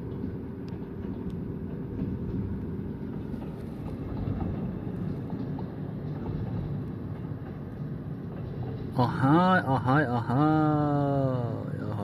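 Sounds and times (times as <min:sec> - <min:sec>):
faint rail clicks: 0:00.0 - 0:10.0
train rumbling on rails: 0:00.0 - 0:12.0.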